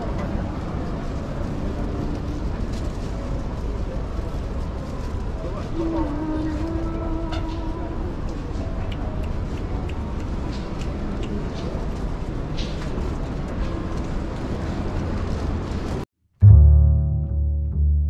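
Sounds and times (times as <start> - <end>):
low rumble of busy hall: 0.0 - 16.6.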